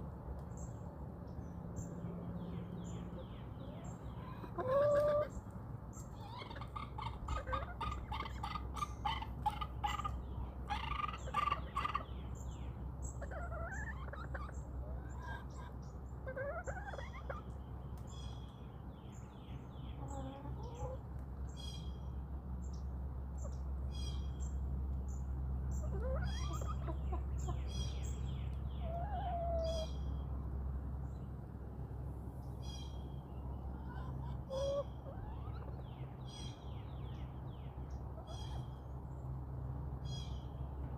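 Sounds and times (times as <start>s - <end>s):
small birds chirping: 0.2s - 31.6s, 32.4s - 40.9s
chickens calling: 1.3s - 22.2s, 23.3s - 31.1s, 32.5s - 39.2s.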